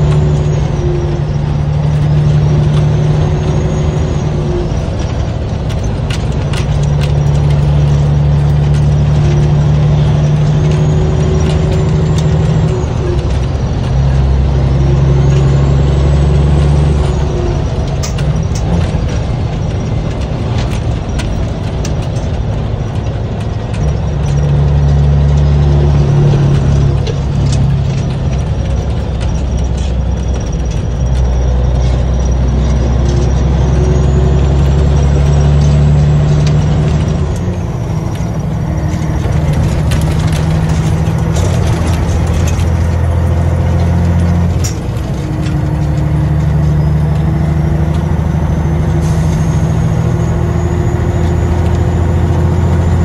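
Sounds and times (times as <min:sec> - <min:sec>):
diesel truck engine pulling: 0:00.0 - 0:53.0.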